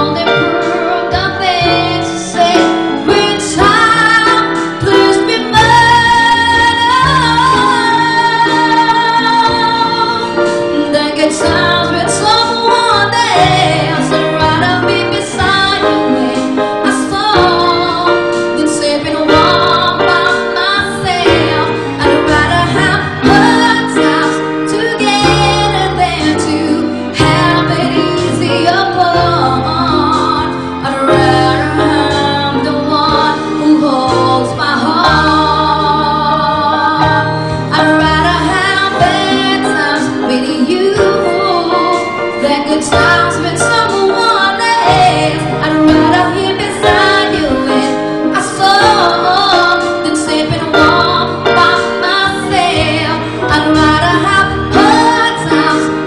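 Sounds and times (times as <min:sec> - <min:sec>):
electronic keyboard: 0:00.0 - 0:56.0
woman singing into a microphone: 0:00.0 - 0:56.0.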